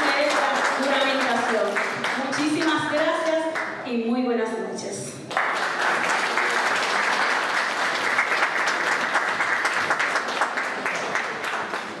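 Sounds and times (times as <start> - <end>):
audience applauding: 0.0 - 3.0, 5.3 - 12.0.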